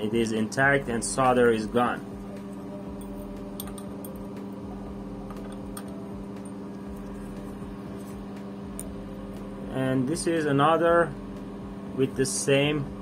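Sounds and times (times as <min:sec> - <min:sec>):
mechanical motor hum: 0:00.0 - 0:13.0.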